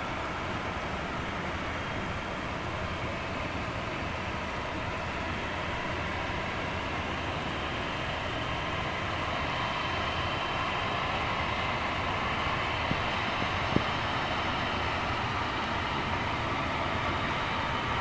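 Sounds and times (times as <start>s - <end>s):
jet engines with high whine: 0.0s - 18.0s.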